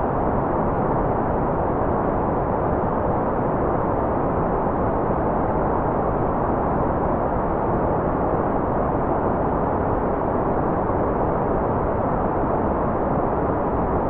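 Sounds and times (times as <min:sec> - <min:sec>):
muffled white noise hiss: 0:00.0 - 0:14.0.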